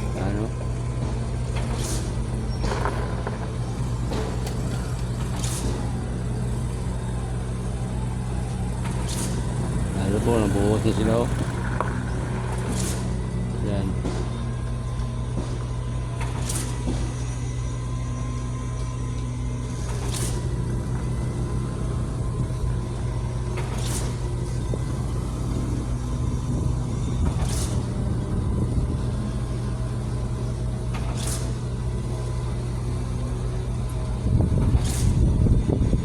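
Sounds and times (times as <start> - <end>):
diesel machinery droning: 0.0 - 36.0.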